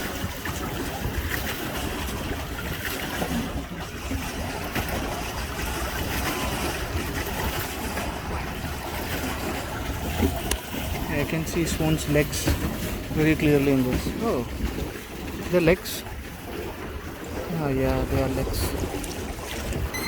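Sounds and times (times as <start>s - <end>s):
lake water rushing: 0.0s - 20.0s
wind rumble on microphone: 0.0s - 20.0s.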